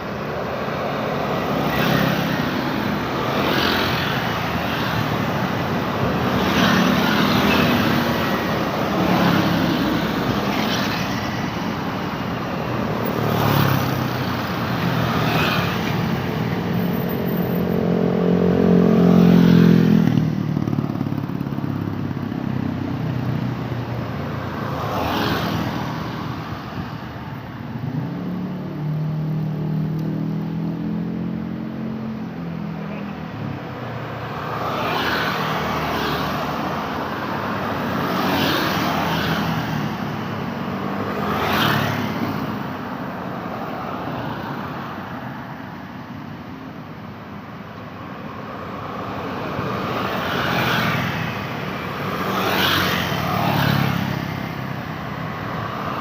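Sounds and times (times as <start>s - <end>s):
cars and motorcycles passing: 0.0s - 56.0s.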